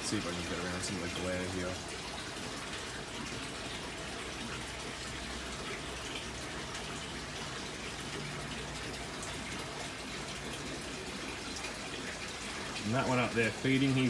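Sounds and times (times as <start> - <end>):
aquarium water rushing and bubbling: 0.0 - 14.0.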